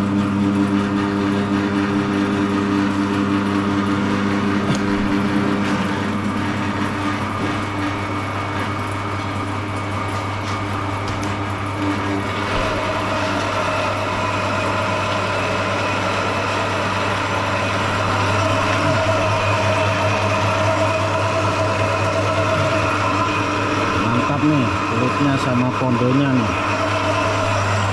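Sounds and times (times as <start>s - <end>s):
higher steady machine tone: 0.0s - 27.9s
machine motor hum: 0.0s - 27.9s.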